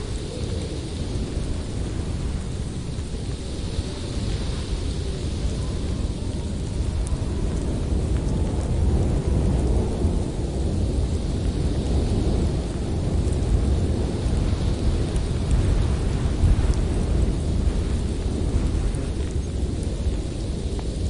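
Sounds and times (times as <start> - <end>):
blizzard wind through forest: 0.0 - 21.0.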